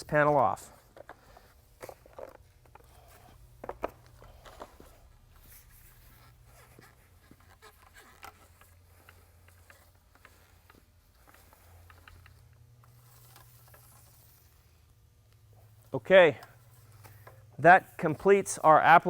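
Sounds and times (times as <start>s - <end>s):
paint roller rolling: 0.7s - 14.9s, 15.5s - 19.0s.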